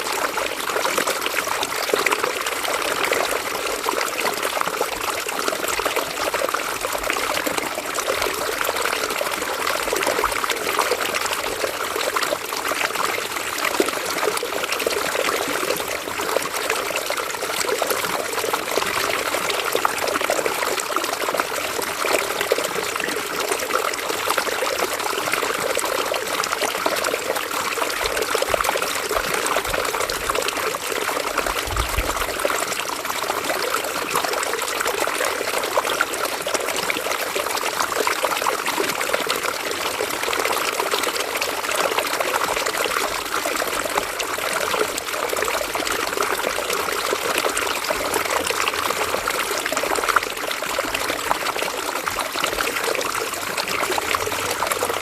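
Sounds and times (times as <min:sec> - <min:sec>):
river water trickling over stones: 0:00.0 - 0:55.0.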